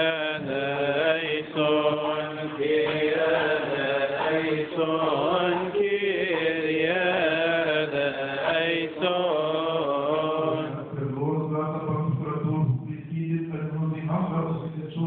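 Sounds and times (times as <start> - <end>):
man chanting through a microphone: 0.0 - 15.0.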